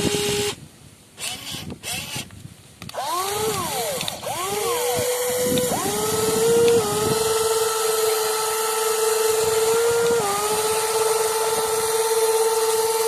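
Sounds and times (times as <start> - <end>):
electric motors and gears whining: 0.0 - 0.6, 1.2 - 2.3, 2.9 - 13.0.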